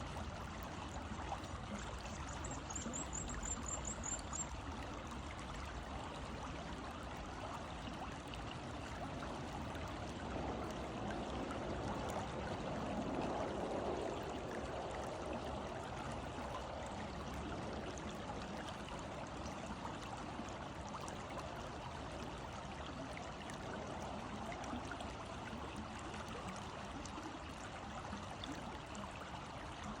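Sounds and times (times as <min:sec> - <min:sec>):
river water rushing and trickling: 0:00.0 - 0:30.0.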